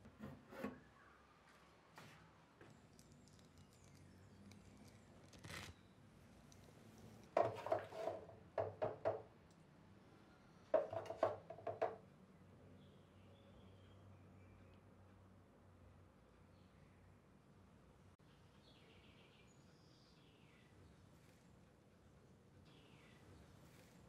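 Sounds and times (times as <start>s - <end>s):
faint room hum: 0.0s - 24.0s.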